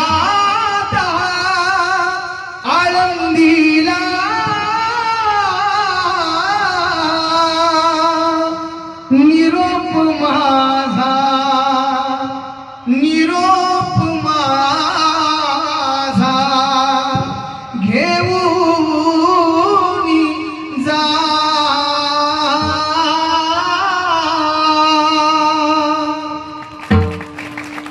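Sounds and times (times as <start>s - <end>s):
man singing devotional song: 0.0s - 26.6s.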